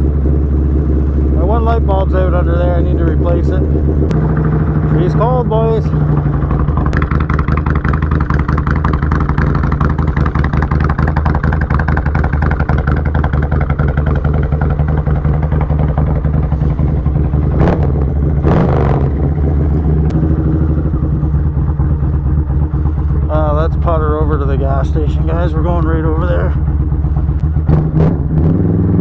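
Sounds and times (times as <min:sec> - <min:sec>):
motorcycle engine idling: 0:00.0 - 0:27.7.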